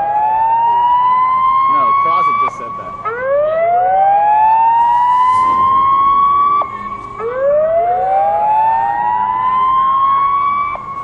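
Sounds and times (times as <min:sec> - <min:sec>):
sirens winding: 0:00.0 - 0:11.0.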